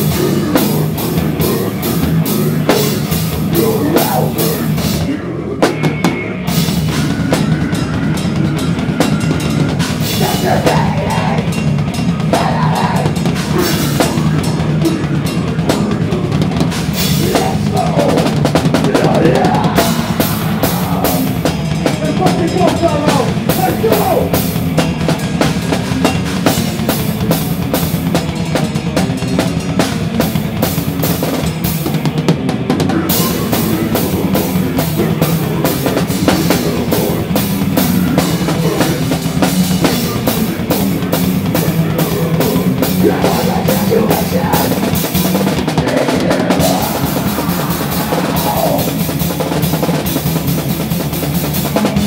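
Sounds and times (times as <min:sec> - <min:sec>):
metal band playing live: 0:00.0 - 0:52.0.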